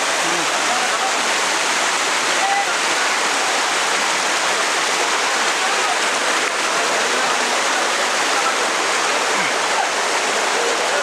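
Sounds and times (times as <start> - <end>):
loud rush of waterfall: 0.0 - 11.0.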